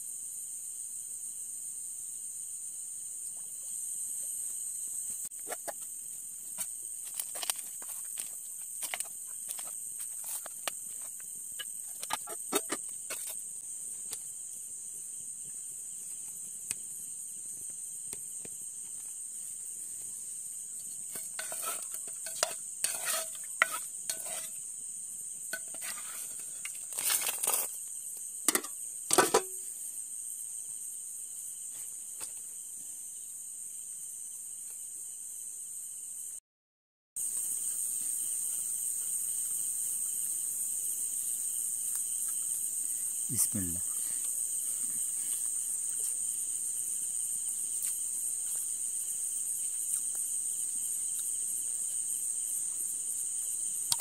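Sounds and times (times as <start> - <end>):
crickets trilling: 0.0 - 36.4, 37.2 - 54.0.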